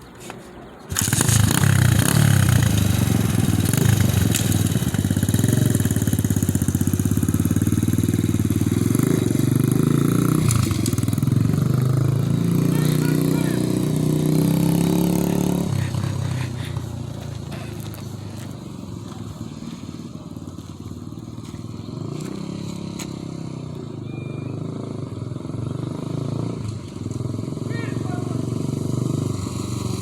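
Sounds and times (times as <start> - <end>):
dirt bike engine running: 0.9 - 30.0.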